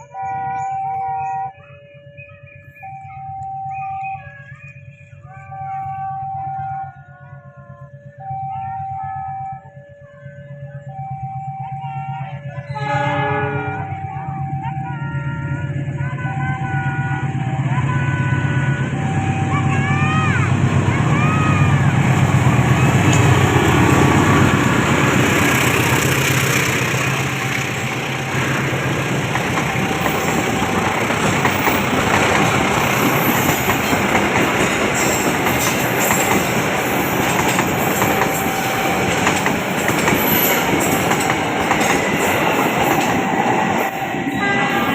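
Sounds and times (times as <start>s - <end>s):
train rumbling past: 0.0s - 44.9s.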